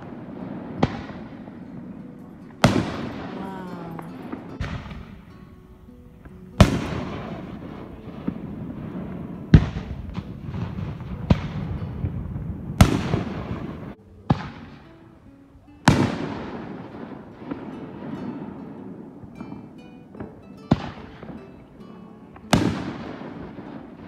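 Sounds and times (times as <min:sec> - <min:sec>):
fireworks booming: 0:00.0 - 0:15.0, 0:15.8 - 0:21.7, 0:22.3 - 0:24.0.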